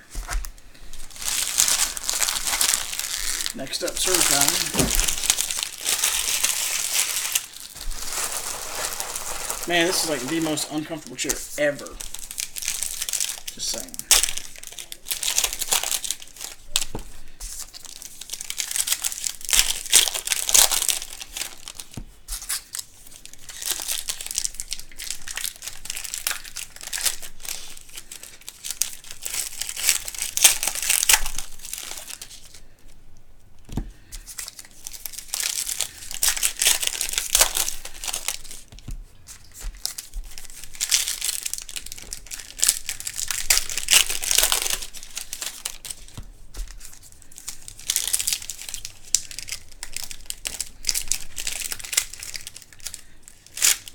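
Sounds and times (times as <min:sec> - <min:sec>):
plastic wrapping crinkling and tearing: 0:00.0 - 0:33.0, 0:33.6 - 0:53.9.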